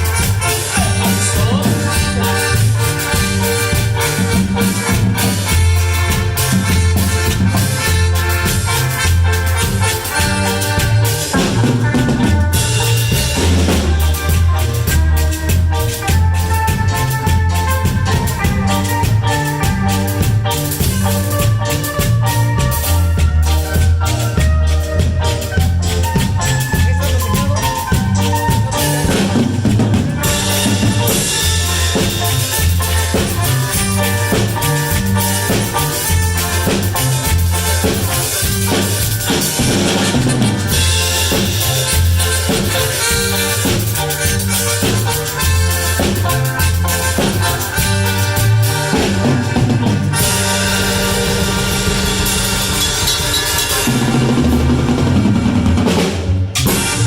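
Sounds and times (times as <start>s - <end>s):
cumbia band playing: 0.0s - 57.0s
drum kit and percussion beat: 0.0s - 57.0s
repeating bass line: 0.0s - 57.0s.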